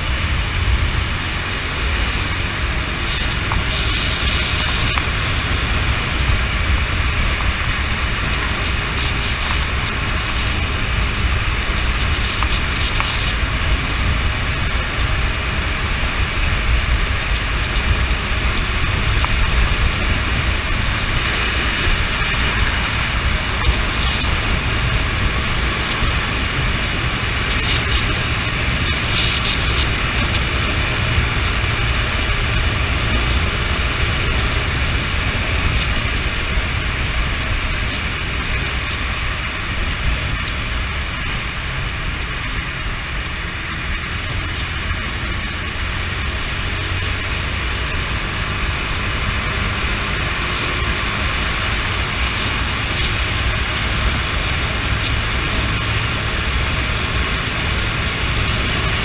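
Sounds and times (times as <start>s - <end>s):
motorcycle engine drone: 0.0s - 59.0s
wind rush on microphone: 0.0s - 59.0s.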